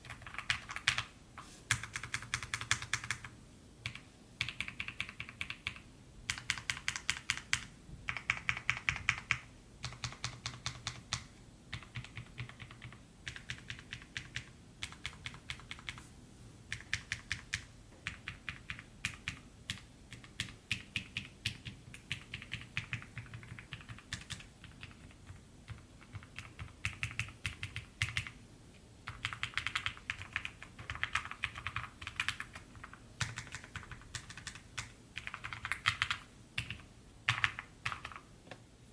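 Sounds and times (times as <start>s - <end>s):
mechanical keyboard typing: 0.0s - 1.1s, 1.7s - 16.0s, 16.7s - 28.4s, 29.0s - 38.3s.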